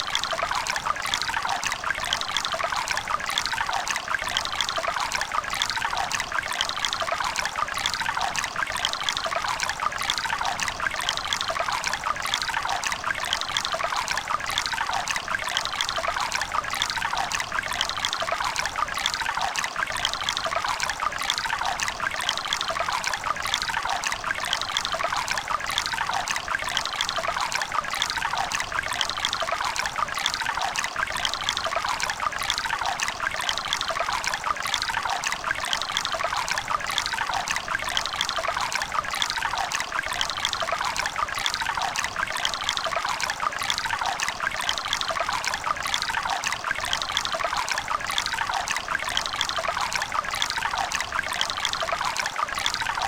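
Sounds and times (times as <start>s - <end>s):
water bubbling and gurgling: 0.0s - 53.0s.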